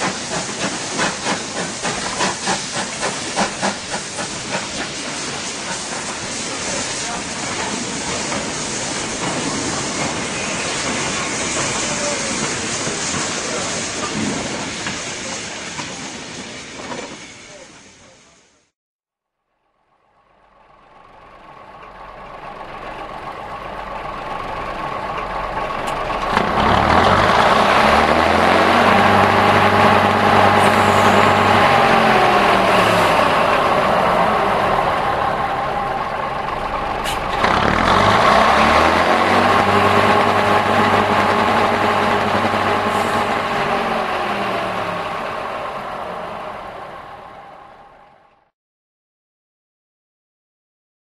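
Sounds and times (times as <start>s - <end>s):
diesel locomotive engine revving: 0.0s - 17.6s, 20.0s - 48.5s.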